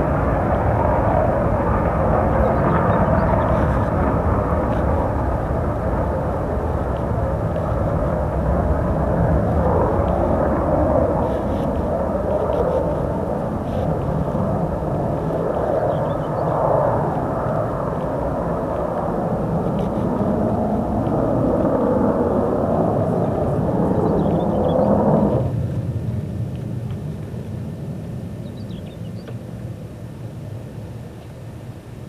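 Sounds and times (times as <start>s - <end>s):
jet engine rumble: 0.0s - 32.0s.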